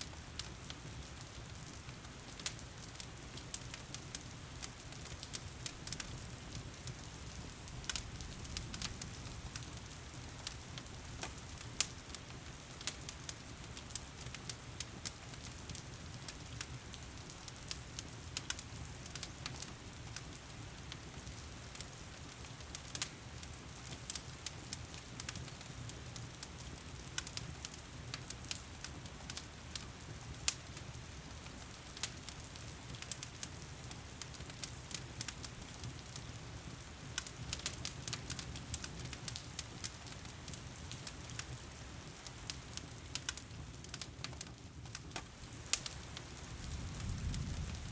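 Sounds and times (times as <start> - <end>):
fire crackling and popping: 0.0 - 47.9.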